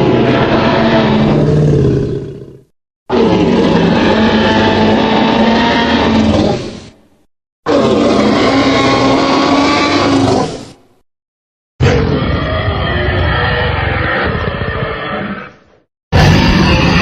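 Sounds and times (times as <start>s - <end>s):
dinosaur roar sound effect: 0.0s - 7.0s, 7.7s - 10.8s, 11.8s - 17.0s.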